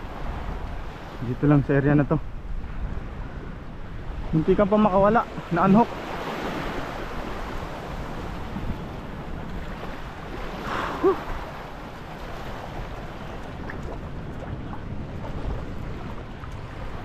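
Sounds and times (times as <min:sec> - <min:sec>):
waves on open water: 0:00.0 - 0:17.0
wind buffeting microphone: 0:00.0 - 0:17.0.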